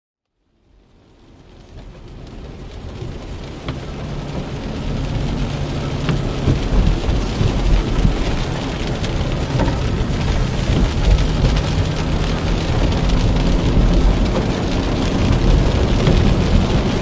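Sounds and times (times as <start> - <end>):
road and wind noise in car: 0.5 - 17.0
tyres hissing on wet road: 0.8 - 17.0
faint engine hum: 2.0 - 17.0.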